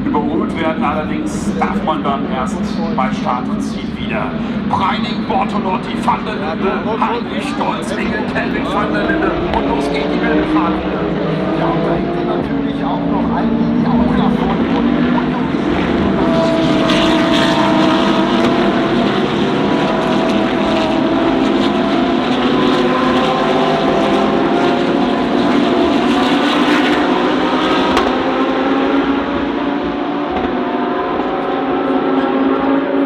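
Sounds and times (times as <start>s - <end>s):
race car engines: 0.0s - 33.0s.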